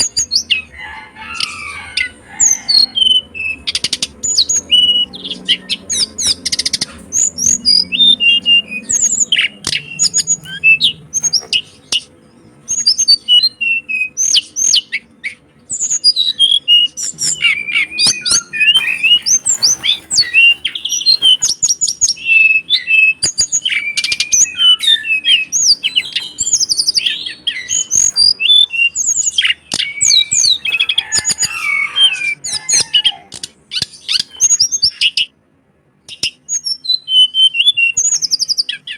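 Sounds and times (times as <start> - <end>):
songbird singing: 0.0 - 35.3, 36.1 - 38.9.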